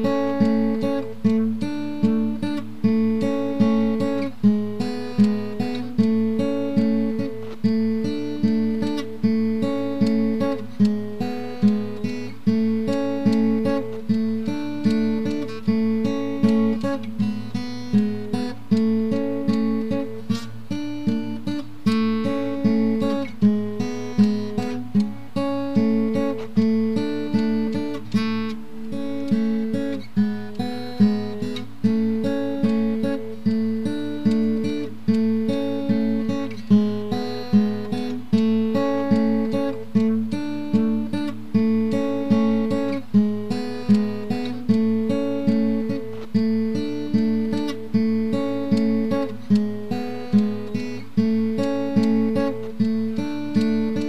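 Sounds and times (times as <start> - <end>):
acoustic guitar plucking: 0.0 - 54.0.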